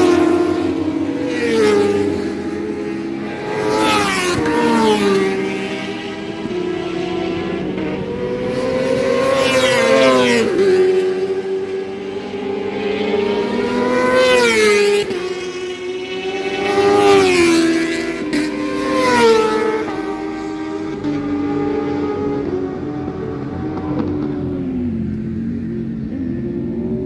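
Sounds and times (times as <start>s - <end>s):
racing engines passing by: 0.0s - 27.0s.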